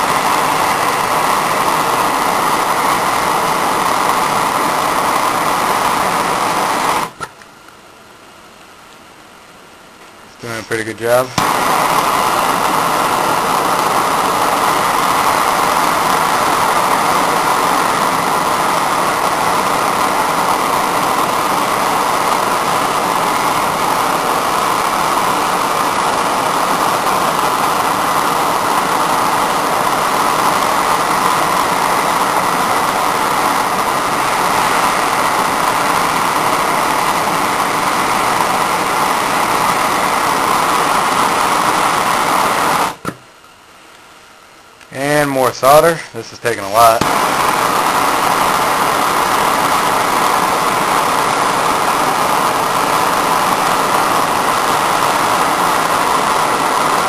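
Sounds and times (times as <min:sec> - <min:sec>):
hand torch flame hissing: 0:00.0 - 0:07.5, 0:10.3 - 0:43.3, 0:44.8 - 0:57.0.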